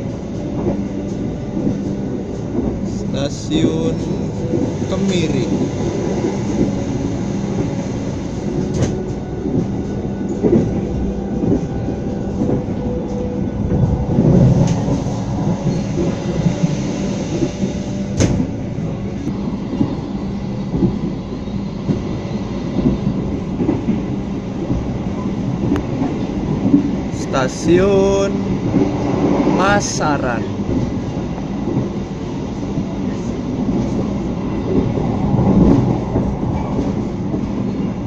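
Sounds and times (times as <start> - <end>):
rail joint clicks and knocks: 0.0 - 29.9, 30.5 - 38.0
train wheels rumbling on rail: 0.0 - 38.0.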